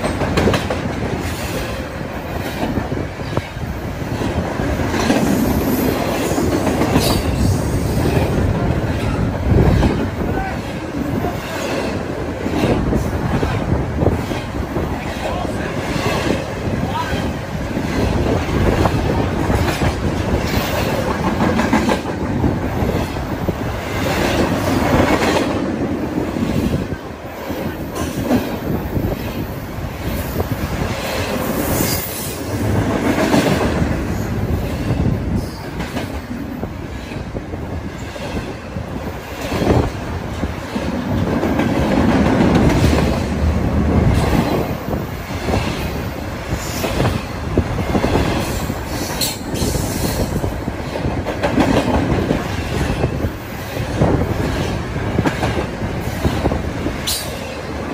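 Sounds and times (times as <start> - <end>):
steel wheels rolling on rail: 0.0 - 57.9.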